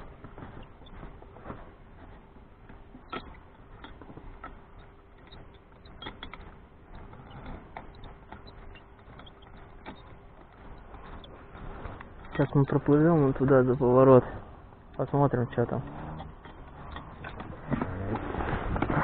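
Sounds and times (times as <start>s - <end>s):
low steady hum: 0.0s - 19.0s
fishing tackle clicks and creaks: 2.9s - 14.2s, 14.8s - 18.9s.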